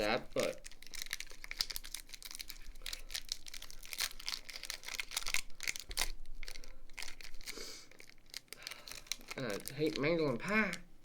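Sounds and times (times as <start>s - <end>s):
foil wrapper crinkling and tearing: 0.0s - 10.9s.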